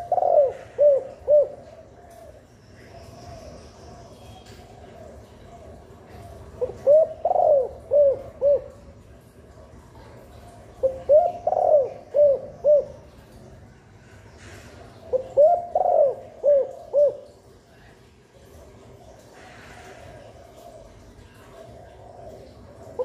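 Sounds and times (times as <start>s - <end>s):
dove cooing: 0.0s - 9.0s, 10.0s - 13.3s, 14.8s - 17.6s, 18.5s - 23.0s.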